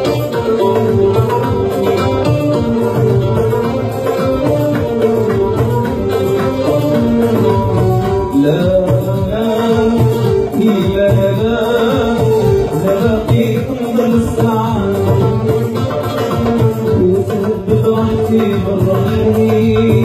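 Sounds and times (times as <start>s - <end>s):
keyboard accompaniment: 0.0s - 20.0s
oud melody: 0.0s - 20.0s.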